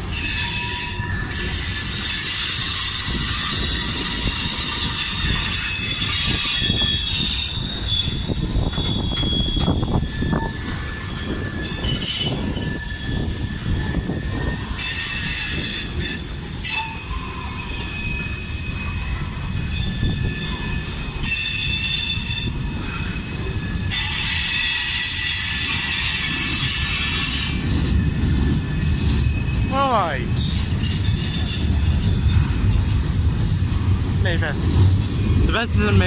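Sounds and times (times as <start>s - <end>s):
train wheels rumbling on rail: 0.0s - 36.0s
high-pitched wheel squeal: 0.1s - 29.7s, 30.4s - 32.6s.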